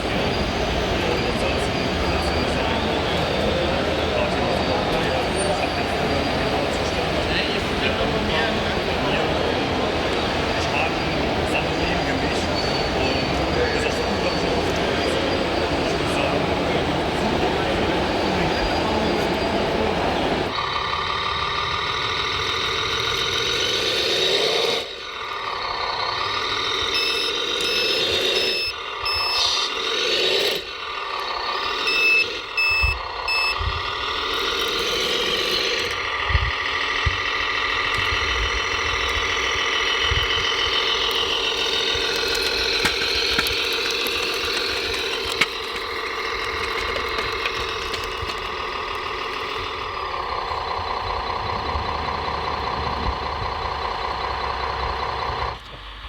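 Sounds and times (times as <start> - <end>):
reversing beeper: 0.0 - 24.0, 26.4 - 55.0
truck engine sound: 0.0 - 56.0.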